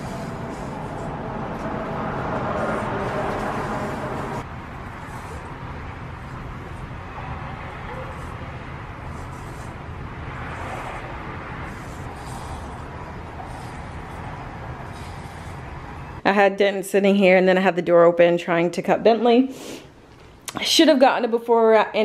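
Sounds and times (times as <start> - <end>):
distant traffic: 0.0 - 22.0.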